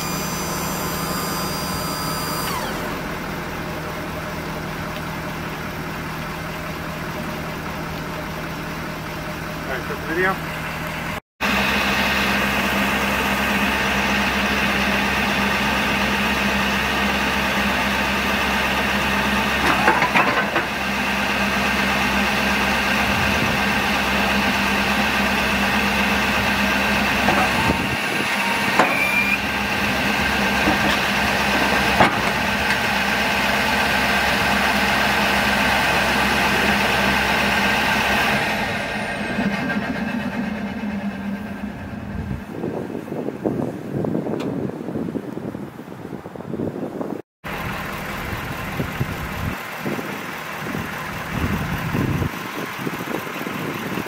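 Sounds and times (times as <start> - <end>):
hydraulic pump whining: 0.0 - 43.7
truck engine idling: 0.0 - 44.9, 47.4 - 54.0.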